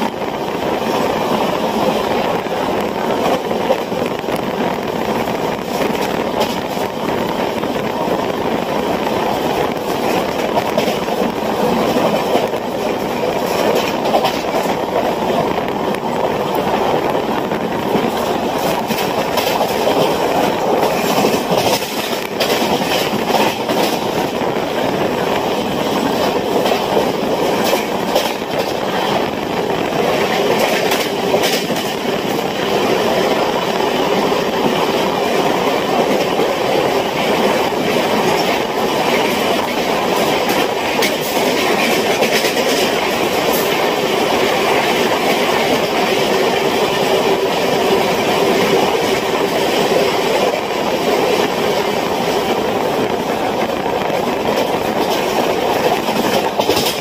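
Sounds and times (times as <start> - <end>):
clacks over rail joints: 0.0 - 57.0
train wheels rumbling on rail: 0.0 - 57.0.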